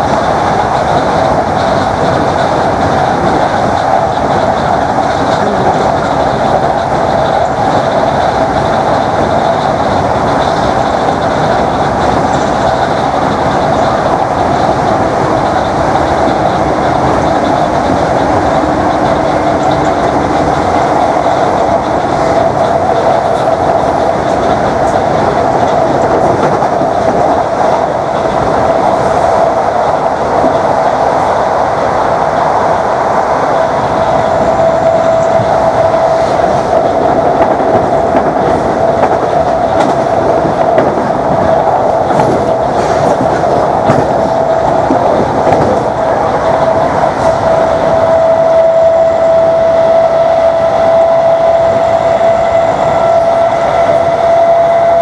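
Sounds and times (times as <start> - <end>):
train wheels on rails: 0.0 - 55.0
electric train motor whine: 0.3 - 55.0.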